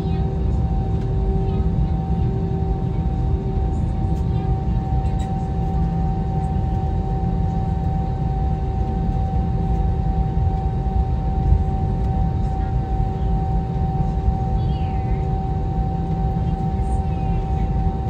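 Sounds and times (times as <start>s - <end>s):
constant hum: 0.0s - 18.0s
jet engine cabin rumble: 0.0s - 18.0s.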